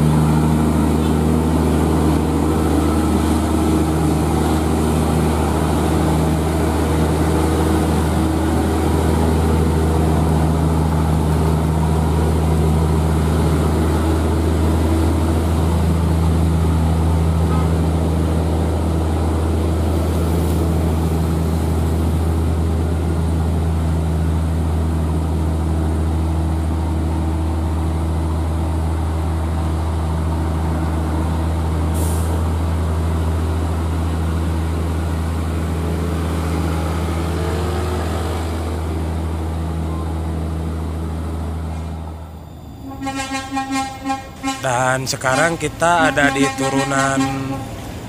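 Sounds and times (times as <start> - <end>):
diesel truck engine drone: 0.0 - 48.0.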